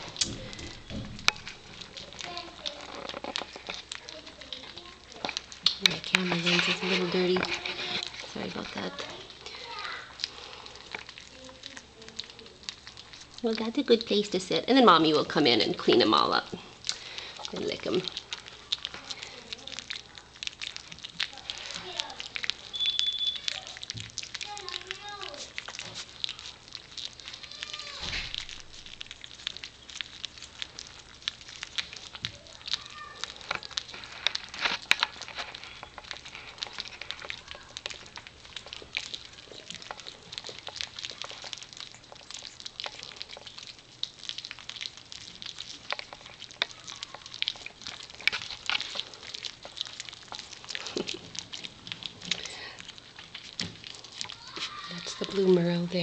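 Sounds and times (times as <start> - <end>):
puppies lapping wet food: 0.0 - 56.0.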